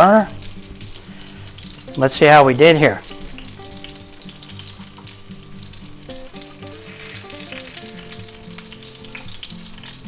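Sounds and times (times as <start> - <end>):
cutlets sizzling in hot oil: 0.0 - 10.0.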